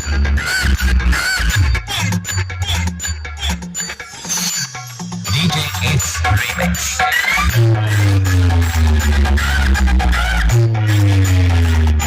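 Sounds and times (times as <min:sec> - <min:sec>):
loud dance music: 0:00.0 - 0:12.0.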